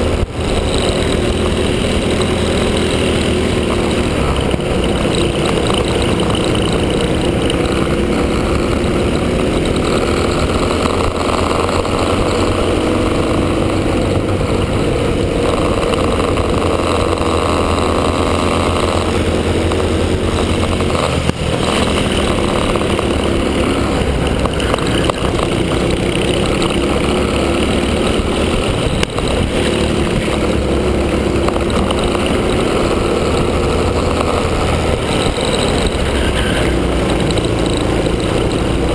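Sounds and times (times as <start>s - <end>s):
kart engine at racing speed: 0.0s - 38.9s.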